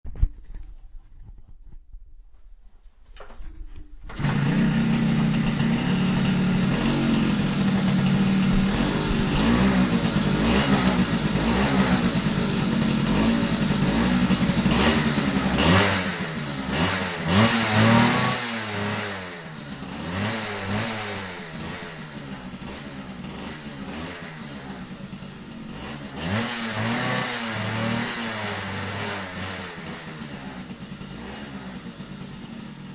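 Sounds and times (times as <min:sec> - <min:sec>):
dirt bike engine revving: 0:04.1 - 0:32.9.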